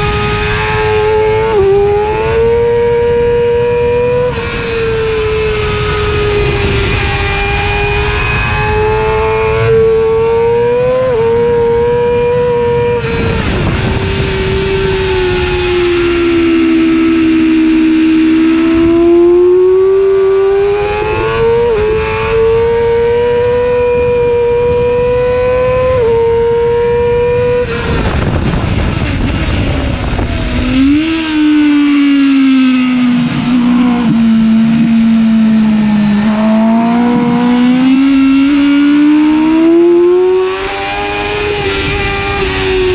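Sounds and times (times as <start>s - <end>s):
sport bike engine revving high: 0.0s - 28.0s, 28.8s - 42.9s
rushing wind noise: 0.0s - 42.9s.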